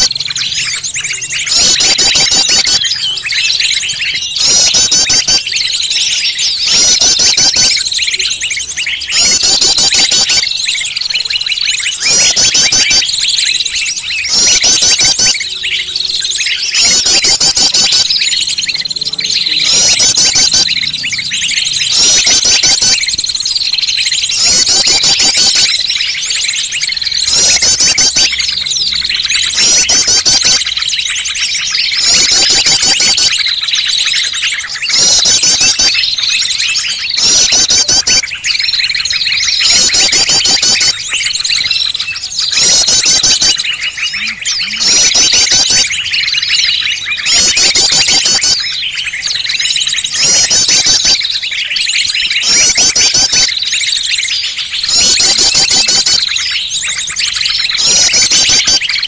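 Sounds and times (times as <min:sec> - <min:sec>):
songbirds chirping and trilling: 0:00.0 - 0:59.0
steady high whistling tone: 0:00.0 - 0:59.0.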